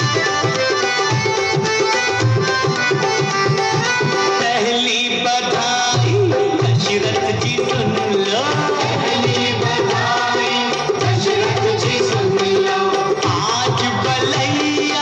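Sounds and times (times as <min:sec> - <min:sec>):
tabla drumming: 0:00.0 - 0:15.0.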